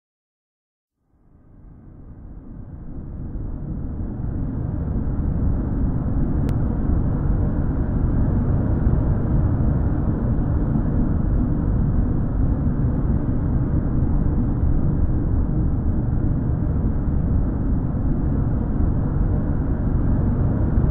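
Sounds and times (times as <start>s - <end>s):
steady low rumble: 1.6s - 20.9s.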